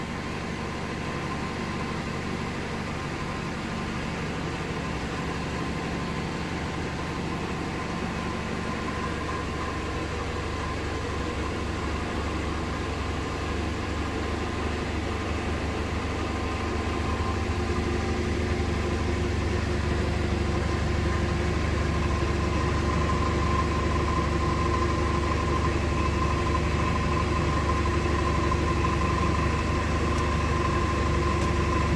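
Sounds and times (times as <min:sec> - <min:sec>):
vehicle engine idling: 0:00.0 - 0:31.9.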